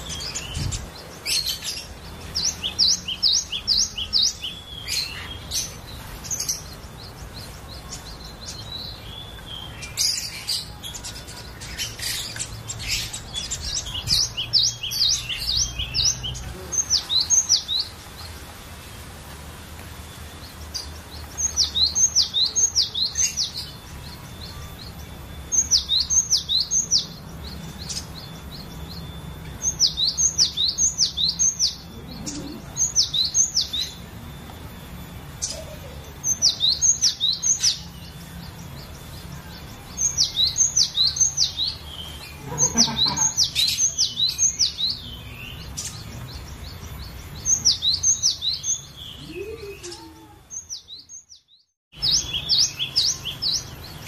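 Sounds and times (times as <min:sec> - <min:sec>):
bird singing whistled notes: 0:00.0 - 0:18.4, 0:20.0 - 0:54.0.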